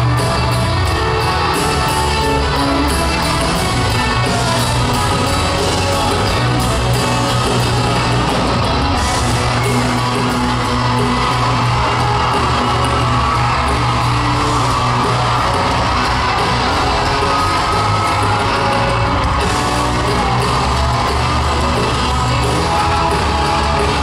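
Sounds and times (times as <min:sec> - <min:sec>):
country-rock band playing: 0:00.0 - 0:24.0
crowd yelling and whooping: 0:00.0 - 0:24.0.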